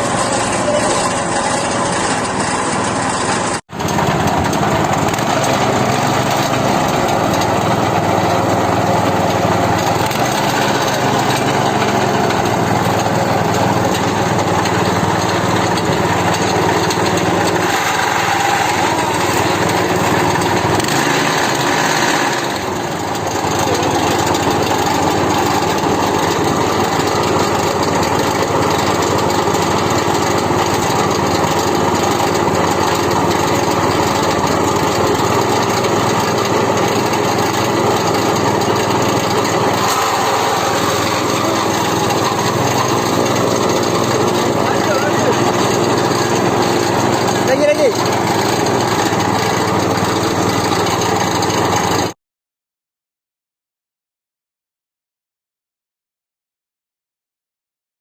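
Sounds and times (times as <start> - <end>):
grass chopper engine running: 0.0 - 52.2.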